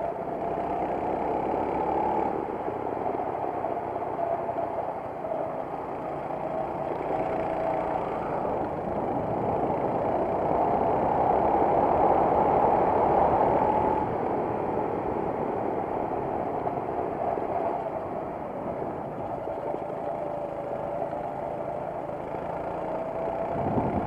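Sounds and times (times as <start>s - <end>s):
kart engine running hard: 0.0s - 24.0s.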